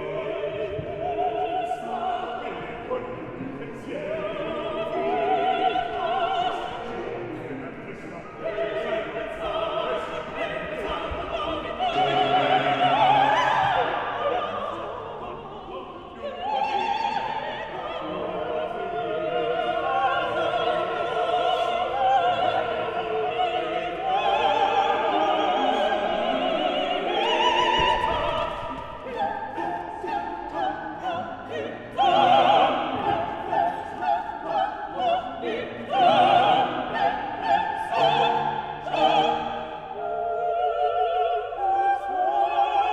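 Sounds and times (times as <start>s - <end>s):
classical instrumental accompaniment: 0.0s - 42.9s
operatic singing with vibrato: 0.0s - 42.9s.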